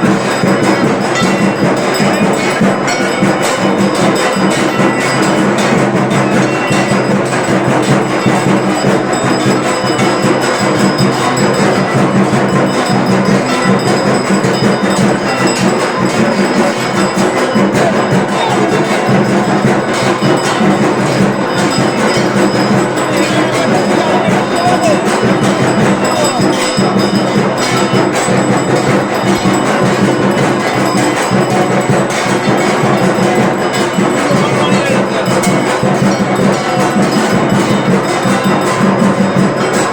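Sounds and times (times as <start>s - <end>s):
metal bells ringing: 0.0s - 39.9s
rapid drum beating: 0.0s - 39.9s.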